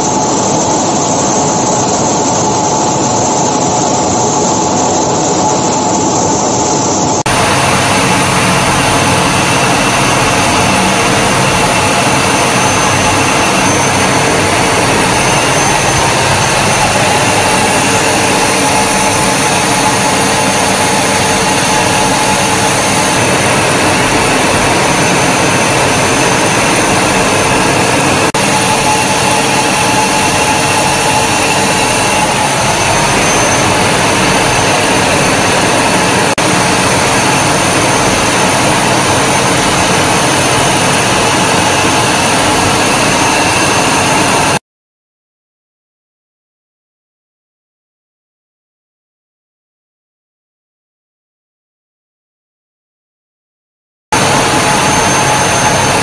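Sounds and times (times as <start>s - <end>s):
jet engine rush in cabin: 0.0s - 44.6s, 54.2s - 56.0s.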